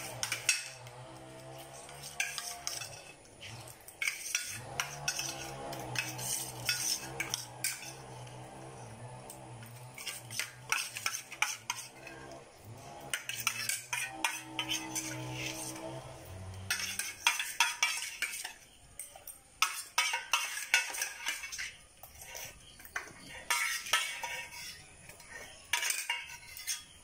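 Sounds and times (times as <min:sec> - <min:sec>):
spoons scraping steel plates: 0:00.0 - 0:27.0.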